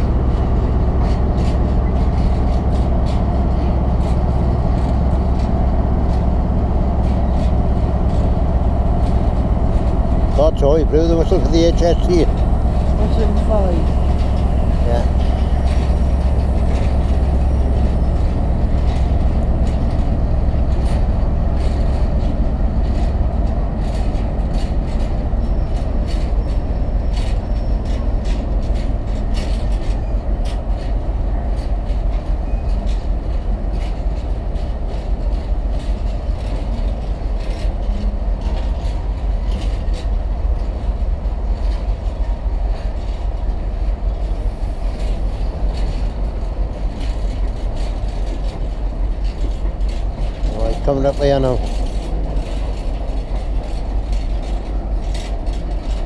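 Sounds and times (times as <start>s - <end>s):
train wheels rumbling on rail: 0.0s - 56.0s
wheels clanking over rail joints: 0.0s - 56.0s.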